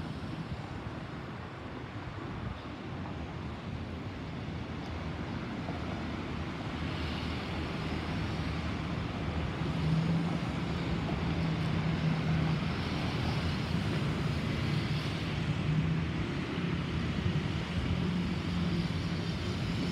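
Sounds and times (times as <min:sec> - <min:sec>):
distant jet airliner roar: 0:00.0 - 0:19.9.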